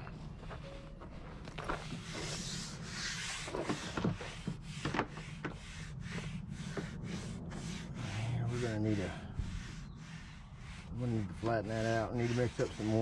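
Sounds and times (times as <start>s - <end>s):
sanding strokes on hard surface: 1.8s - 13.0s.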